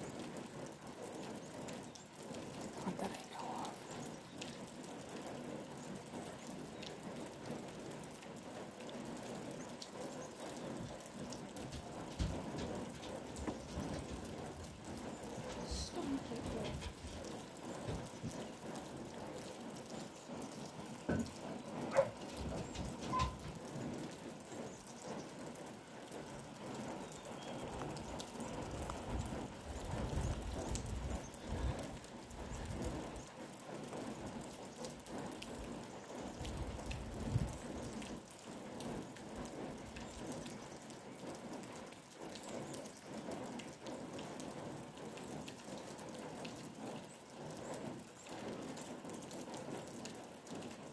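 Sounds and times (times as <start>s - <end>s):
light rain pattering: 0.0s - 50.9s.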